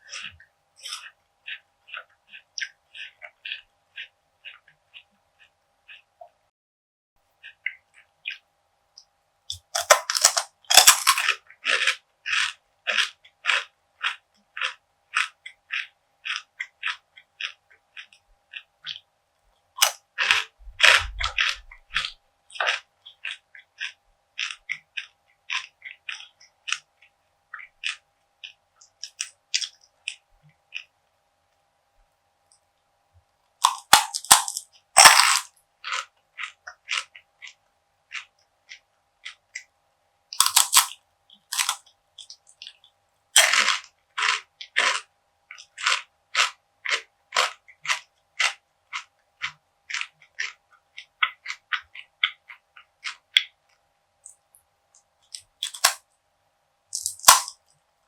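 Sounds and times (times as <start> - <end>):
crunching and chewing brittle: 0.0 - 6.1, 7.4 - 31.6, 32.5 - 56.1, 56.9 - 58.0.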